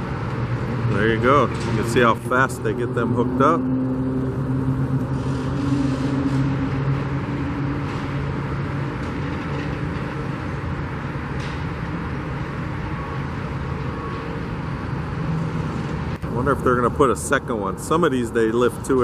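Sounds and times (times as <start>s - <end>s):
engine and traffic rumble: 0.0s - 19.0s
engine hum: 0.0s - 19.0s.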